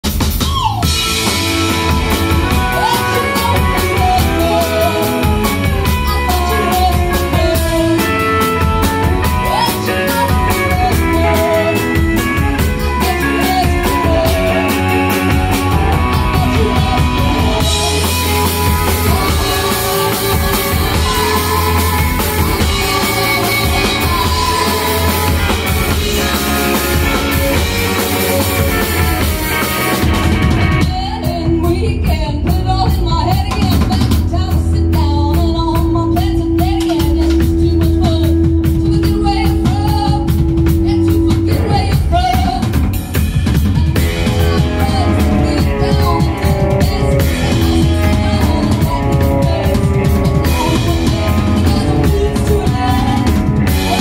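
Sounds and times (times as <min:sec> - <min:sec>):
live rock band: 0:00.0 - 0:54.0
woman singing: 0:00.5 - 0:54.0.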